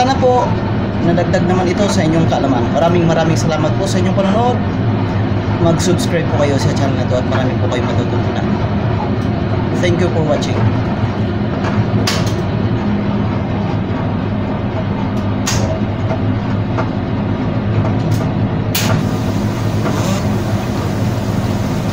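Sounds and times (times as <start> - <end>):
washing machine humming: 0.0 - 21.9.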